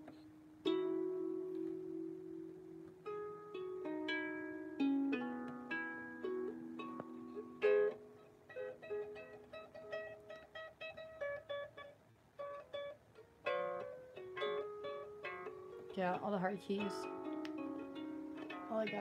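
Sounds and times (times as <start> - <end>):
out-of-tune harp plucked: 0.0 - 19.0.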